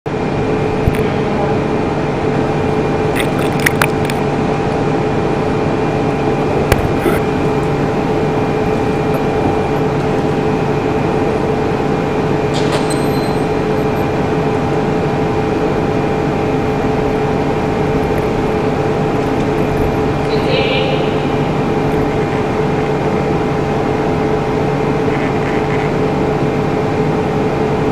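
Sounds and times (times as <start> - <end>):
machine-like drone with hiss: 0.2 - 27.9.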